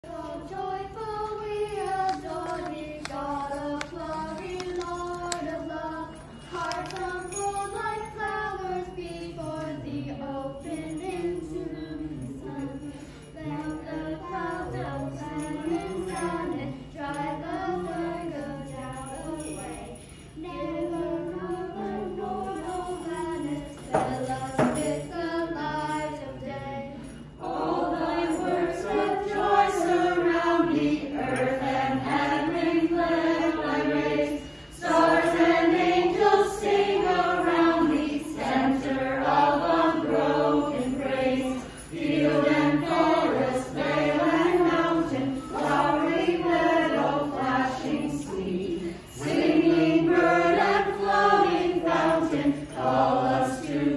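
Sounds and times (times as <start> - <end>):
group of carolers singing: 0.0 - 53.9.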